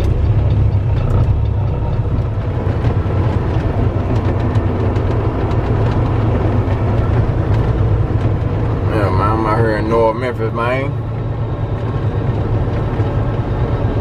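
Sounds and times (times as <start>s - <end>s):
light rattles in truck cab: 0.0s - 14.0s
truck diesel engine drone: 0.0s - 14.0s.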